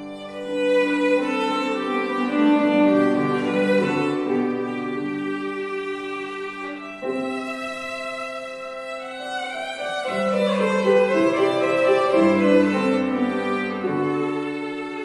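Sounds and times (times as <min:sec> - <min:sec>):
piano chords: 0:00.0 - 0:15.0
violin: 0:00.0 - 0:15.0.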